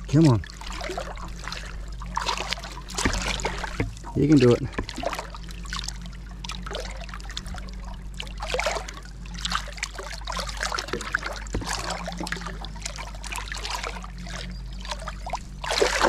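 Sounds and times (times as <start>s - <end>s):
water trickling and sloshing: 0.0s - 16.0s.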